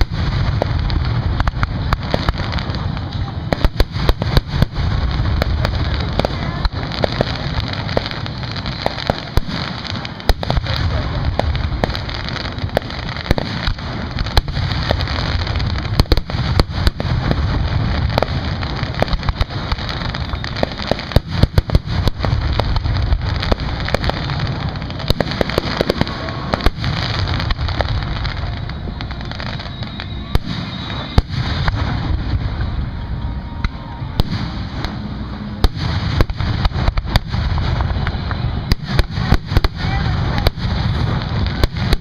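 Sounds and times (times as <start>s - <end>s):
fireworks bangs and crackles: 0.0s - 42.0s
low rumble: 0.0s - 42.0s.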